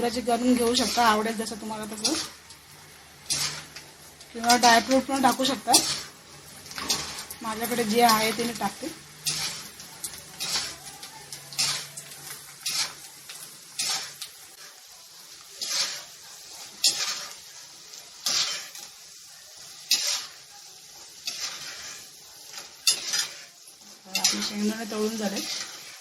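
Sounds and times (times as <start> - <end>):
metal spoon scraping pan: 0.0 - 14.8, 15.4 - 26.0
faint oil sizzle: 0.0 - 26.0.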